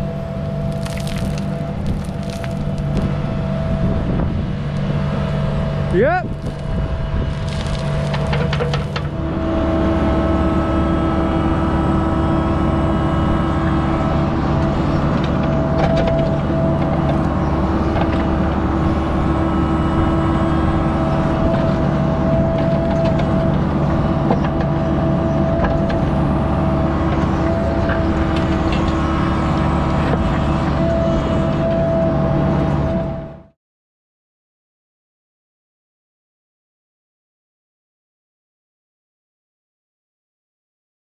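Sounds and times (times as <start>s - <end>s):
diesel engine running under load: 0.0s - 33.6s.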